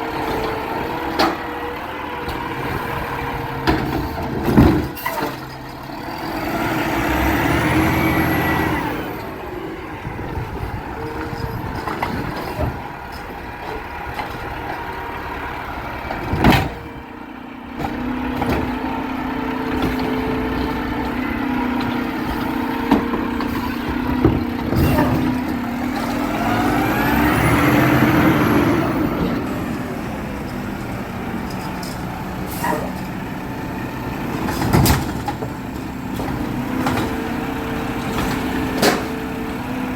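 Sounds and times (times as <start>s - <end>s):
heavy truck engine hum: 0.0s - 39.9s
vehicles passing: 0.0s - 39.9s.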